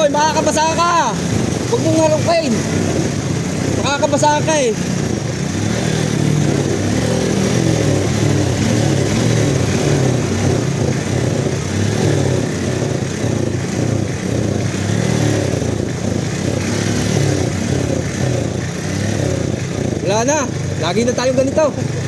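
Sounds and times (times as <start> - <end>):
motorcycle engine at low speed: 0.0 - 22.0
steady wash of noise: 0.0 - 22.0.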